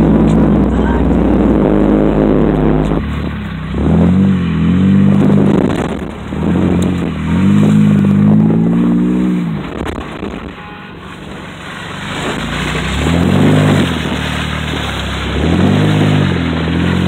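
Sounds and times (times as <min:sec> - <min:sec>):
road and tyre noise: 0:00.0 - 0:17.0
vehicle engine revving: 0:00.0 - 0:17.0.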